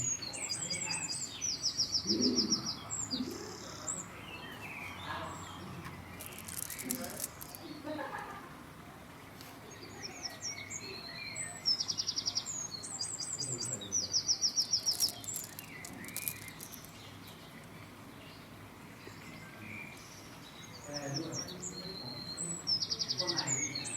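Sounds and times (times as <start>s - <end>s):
small birds chirping: 0.0s - 8.0s, 9.5s - 23.9s.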